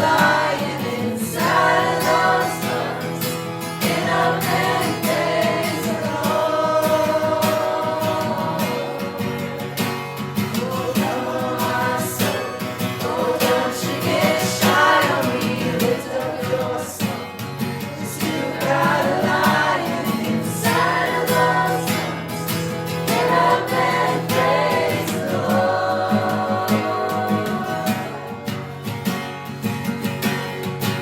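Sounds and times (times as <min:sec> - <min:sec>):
group of voices singing: 0:00.0 - 0:29.0
strummed acoustic guitar: 0:00.0 - 0:31.0.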